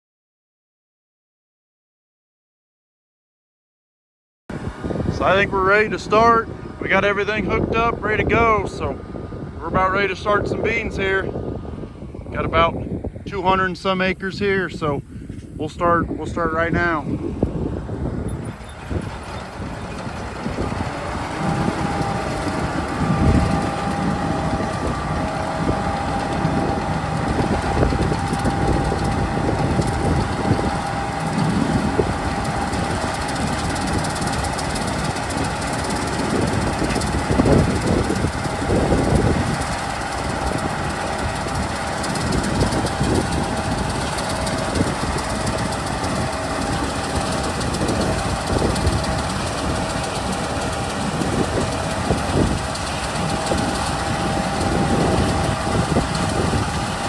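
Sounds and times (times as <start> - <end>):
combine harvester engine running: 4.5 - 57.0.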